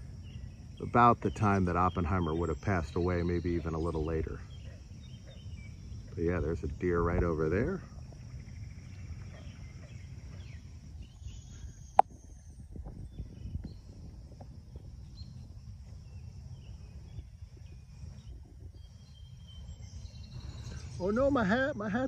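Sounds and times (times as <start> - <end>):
wind buffeting microphone: 0.0 - 21.5
insects droning: 0.0 - 22.0.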